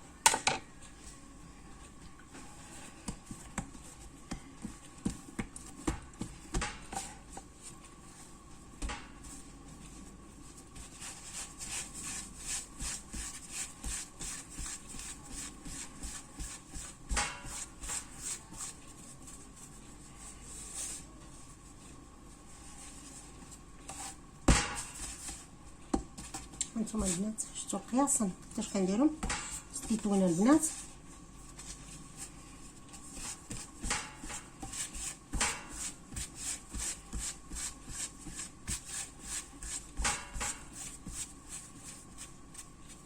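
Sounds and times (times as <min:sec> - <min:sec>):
hands rubbing dough: 0:00.7 - 0:43.0.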